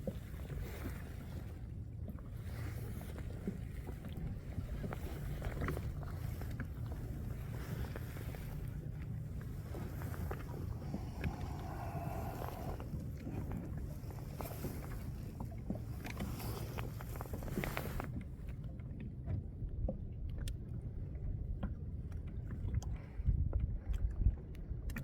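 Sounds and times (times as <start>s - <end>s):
low wind rumble: 0.0s - 24.9s
water sloshing against kayak hull: 0.0s - 25.0s.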